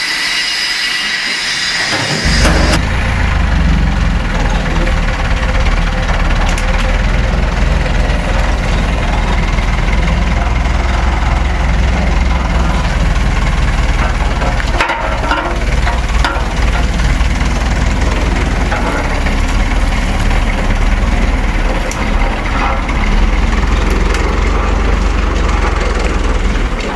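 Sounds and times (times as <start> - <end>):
diesel truck engine idling: 2.2 - 26.9.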